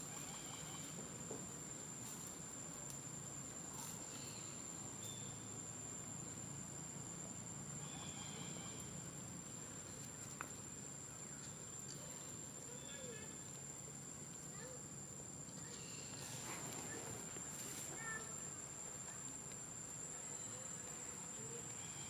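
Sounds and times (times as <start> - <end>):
insect trilling: 0.0 - 1.7, 3.2 - 22.0.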